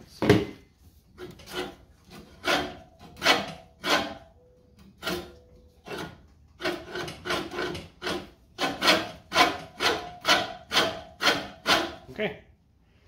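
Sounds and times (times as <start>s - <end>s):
reel mower blades scraping: 1.0s - 11.8s.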